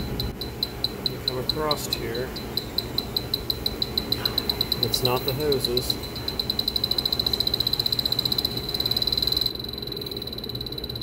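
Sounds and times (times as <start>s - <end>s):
leak detector beeping rapidly: 0.0s - 11.0s.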